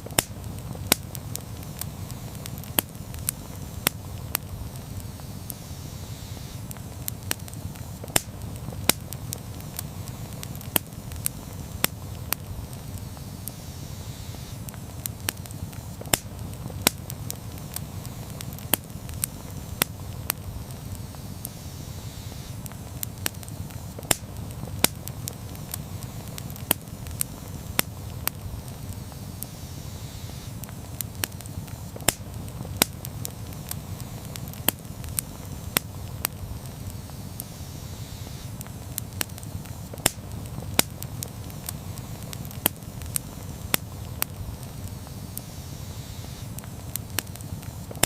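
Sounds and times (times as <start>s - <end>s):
wood pops and crackles: 0.0s - 5.7s, 6.4s - 48.0s
low rush of flames: 0.0s - 48.0s.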